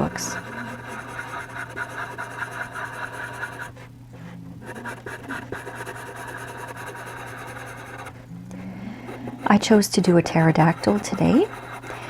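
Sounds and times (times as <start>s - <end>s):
charcoal pencil scratching on paper: 0.0s - 3.8s, 4.6s - 8.2s, 9.0s - 12.0s.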